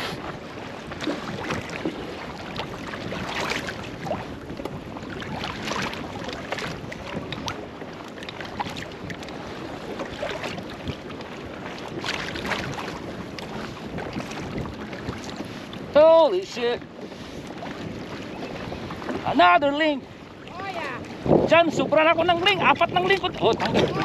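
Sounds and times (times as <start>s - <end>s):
water lapping against boat: 0.0s - 24.0s
wind buffeting microphone: 0.0s - 24.0s.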